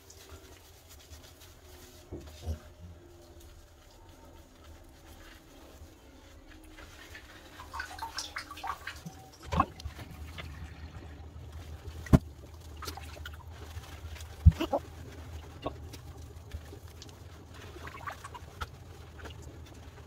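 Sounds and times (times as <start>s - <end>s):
low steady hum: 0.0s - 20.0s
bathwater splashing: 3.7s - 20.0s.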